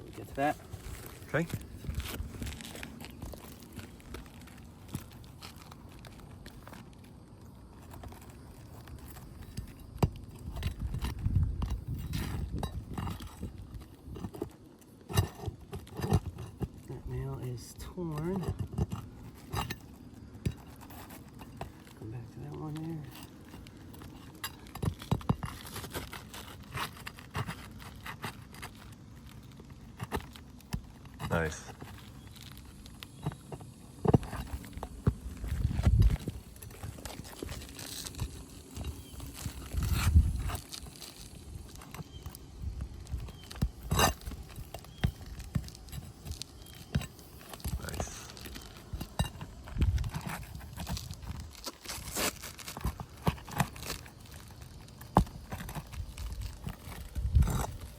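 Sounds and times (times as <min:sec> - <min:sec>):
scraping roof shingles: 0:00.0 - 0:57.9.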